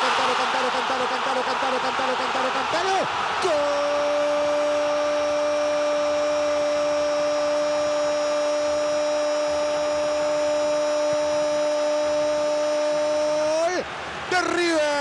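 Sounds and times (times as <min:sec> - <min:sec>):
commentator's long drawn-out shout: 0:00.0 - 0:13.8
stadium crowd roaring: 0:00.0 - 0:15.0.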